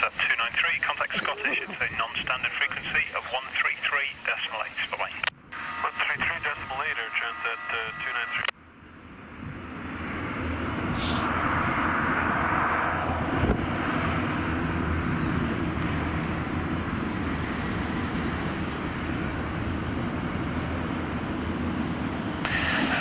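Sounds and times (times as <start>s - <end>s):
airliner jet engine: 0.0s - 23.0s.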